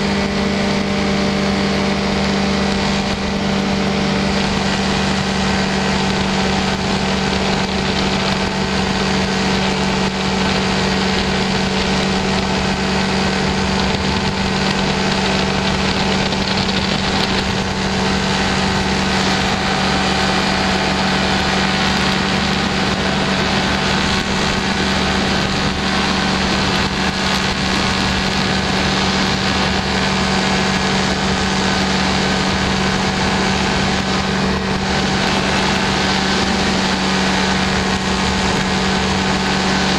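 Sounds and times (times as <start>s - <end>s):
rushing noise: 0.0s - 39.9s
small aircraft engine drone: 0.0s - 39.9s.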